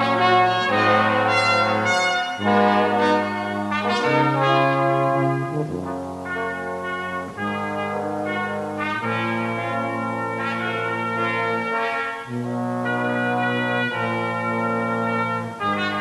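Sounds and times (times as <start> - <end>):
instrumental music of held chords: 0.0 - 16.0.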